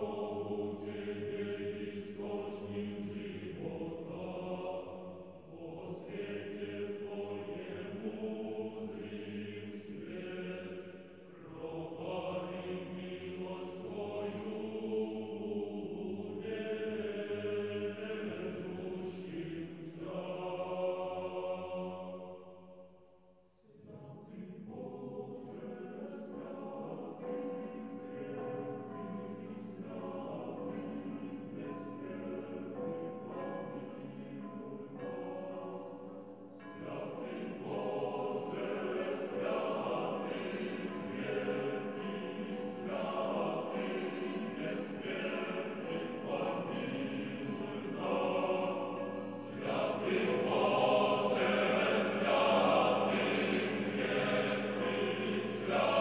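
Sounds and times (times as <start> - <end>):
choir singing a slow chant: 0.0 - 56.0.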